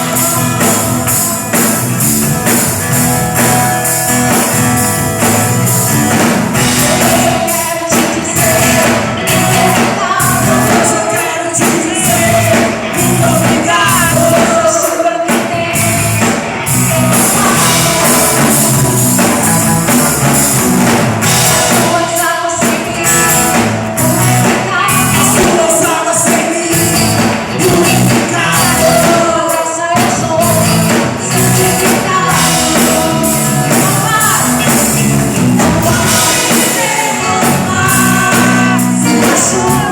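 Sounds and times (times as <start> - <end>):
person singing: 0.0 - 2.7, 5.2 - 20.6, 21.2 - 39.9
band playing gospel song: 0.0 - 39.9.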